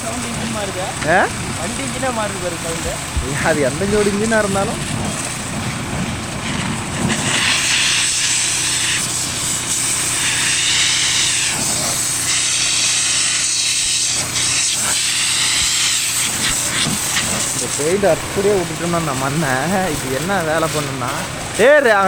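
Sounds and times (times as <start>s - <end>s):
engine running: 0.0s - 22.0s
pressure washer jet hissing: 0.0s - 22.0s.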